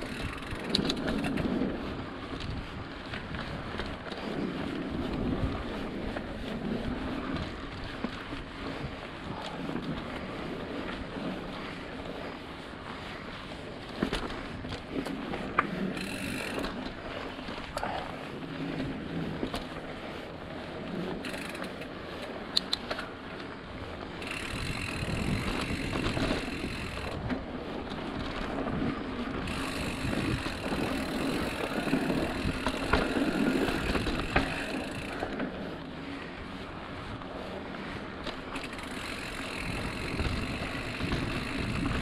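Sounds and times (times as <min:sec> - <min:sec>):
bike rattling over bumps: 0:00.0 - 0:42.0
bike tyres rolling on dirt: 0:00.0 - 0:42.0.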